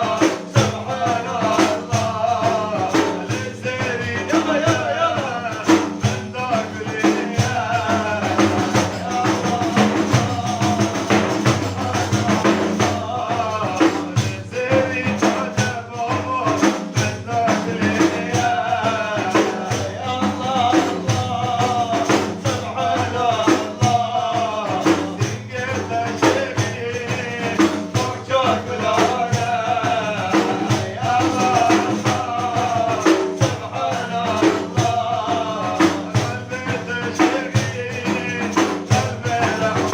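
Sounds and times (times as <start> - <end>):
frame drum with jingles: 0.0 - 39.9
man singing: 0.0 - 39.9.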